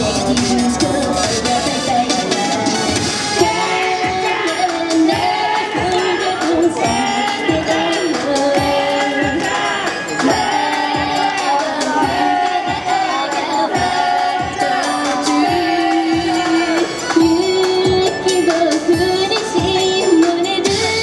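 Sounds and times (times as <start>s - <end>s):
pop song over speakers: 0.0s - 21.0s
girl singing into microphone: 3.4s - 9.5s, 10.2s - 21.0s.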